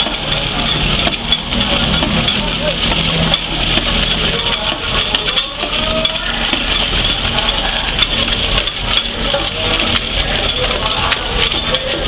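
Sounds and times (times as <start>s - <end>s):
machine clicks and rattles: 0.0s - 12.0s.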